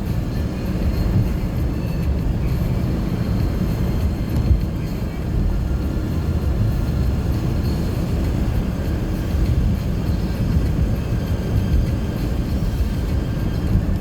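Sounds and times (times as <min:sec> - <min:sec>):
tyre and engine rumble: 0:00.0 - 0:14.0.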